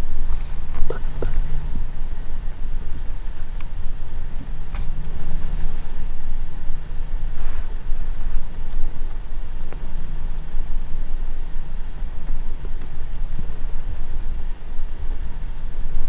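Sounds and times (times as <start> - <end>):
low rumble: 0.0 - 15.0
insect chirping: 0.0 - 16.0.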